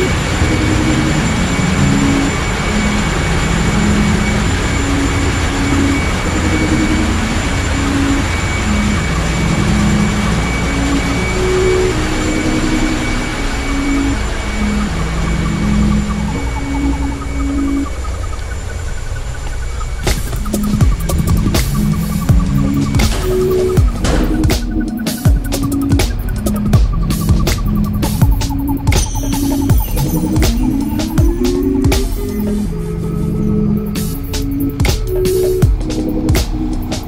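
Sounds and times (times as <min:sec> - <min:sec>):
ship engine room rumble: 0:00.0 - 0:37.0
slow tune of low notes: 0:00.0 - 0:37.0.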